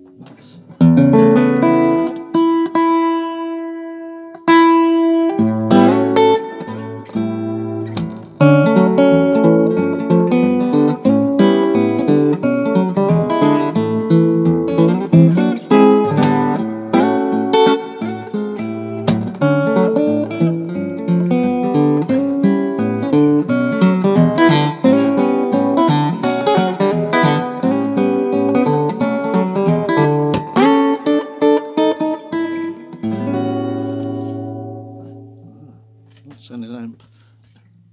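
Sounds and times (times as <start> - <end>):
acoustic guitar through amplifier: 0.0 - 37.9.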